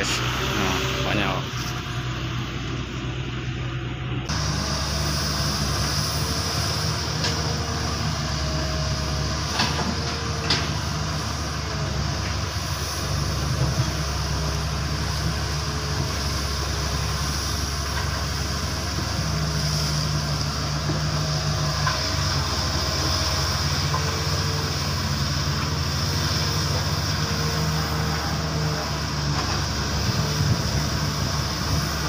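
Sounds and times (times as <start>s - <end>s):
excavator diesel engine and hydraulics: 0.0s - 32.0s.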